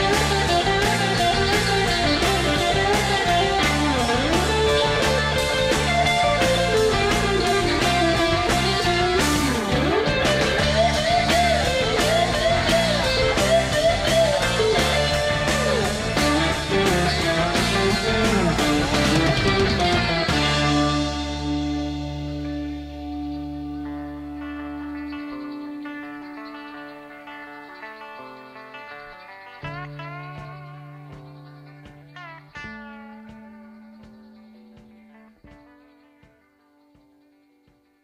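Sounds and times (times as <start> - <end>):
rock music with lead guitar: 0.0 - 38.0.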